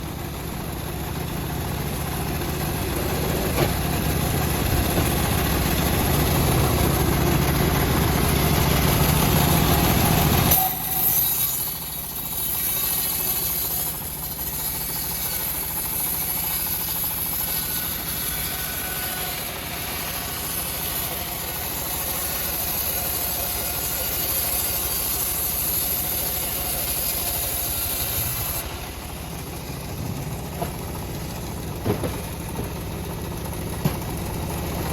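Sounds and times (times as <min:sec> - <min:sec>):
bandsaw mill sawing log: 0:00.0 - 0:34.9.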